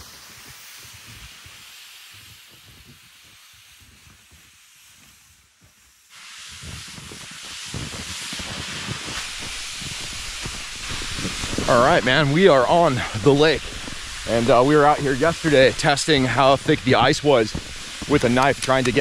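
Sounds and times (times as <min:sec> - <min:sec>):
wind hissing on microphone: 0:00.0 - 0:19.0.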